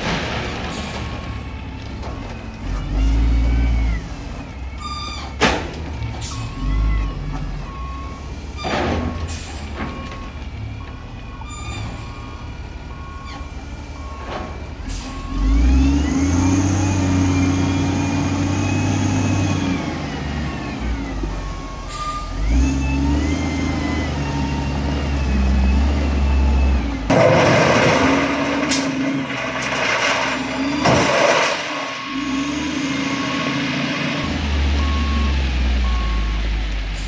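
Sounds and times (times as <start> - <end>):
heavy diesel engine revving: 0.0 - 10.7, 11.4 - 37.0.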